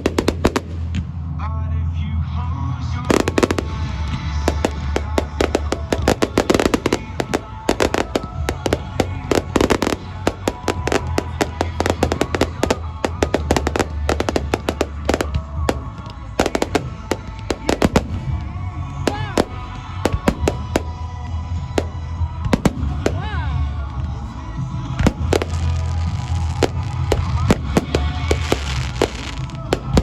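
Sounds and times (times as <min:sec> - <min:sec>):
fireworks bangs and crackles: 0:00.0 - 0:01.4, 0:02.9 - 0:30.0.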